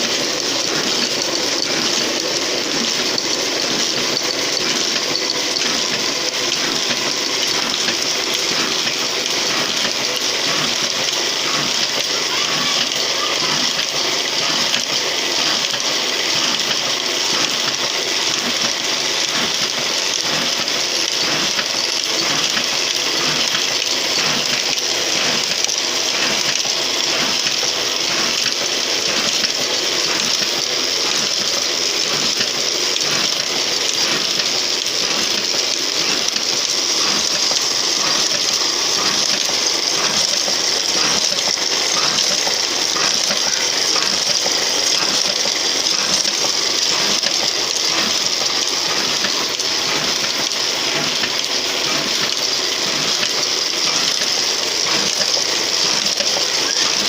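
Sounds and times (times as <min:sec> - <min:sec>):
printing press clattering: 0:00.0 - 0:57.0.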